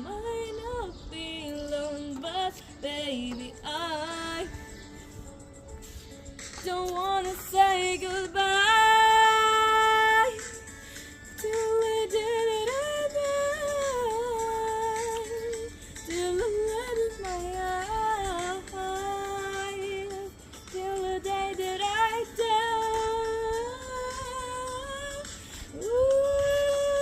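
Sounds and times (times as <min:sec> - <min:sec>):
woman singing wordlessly: 0:00.0 - 0:04.9, 0:06.6 - 0:10.7, 0:11.4 - 0:27.0
faint music: 0:00.0 - 0:27.0.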